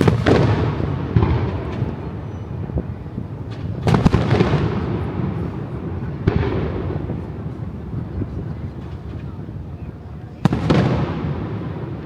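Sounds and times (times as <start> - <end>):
fireworks bangs: 0.0 - 12.0
low rumble of echoing reports: 0.0 - 12.0.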